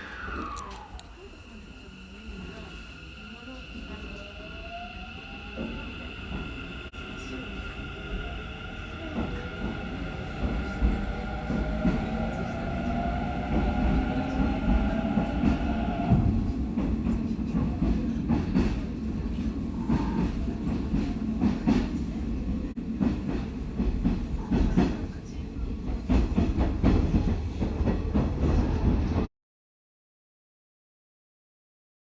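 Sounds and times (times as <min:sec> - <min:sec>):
train low rumble: 0:00.0 - 0:29.3.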